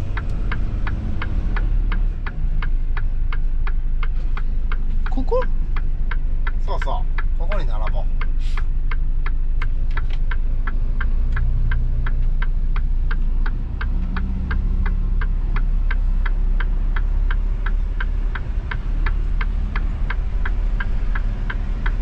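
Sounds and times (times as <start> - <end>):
diesel engine drone: 0.0 - 22.0
indicator relay ticking: 0.0 - 22.0.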